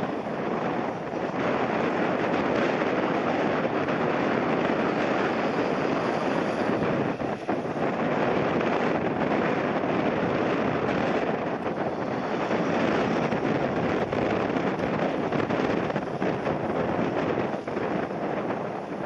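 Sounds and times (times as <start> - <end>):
jet airliner rushing noise: 0.0 - 19.0
wind gusting on microphone: 0.0 - 19.0.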